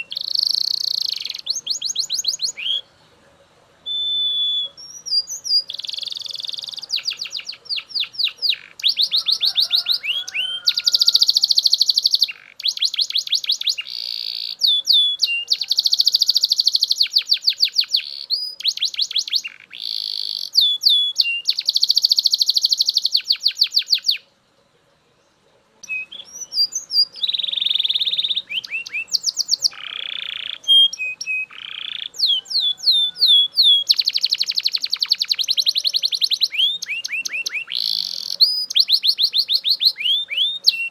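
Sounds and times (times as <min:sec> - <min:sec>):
canary singing trills: 0:00.0 - 0:24.6, 0:25.2 - 0:40.9.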